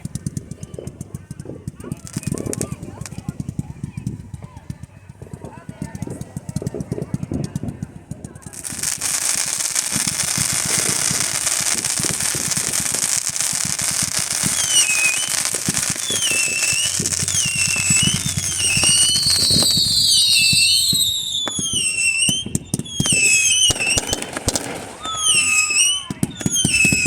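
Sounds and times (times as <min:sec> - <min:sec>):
fireworks crackling: 0:00.0 - 0:27.0
whistling fireworks: 0:00.0 - 0:27.0.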